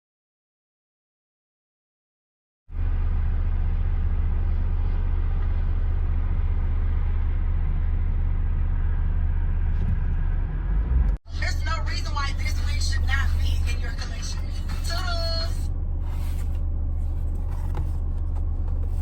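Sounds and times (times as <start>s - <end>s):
vehicle rumble: 2.7s - 19.0s.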